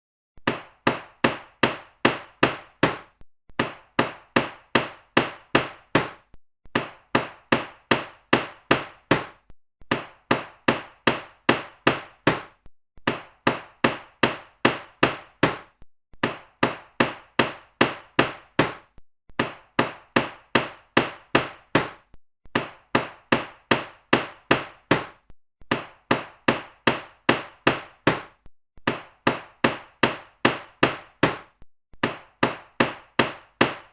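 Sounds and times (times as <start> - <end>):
hammer strikes: 0.4 - 33.9.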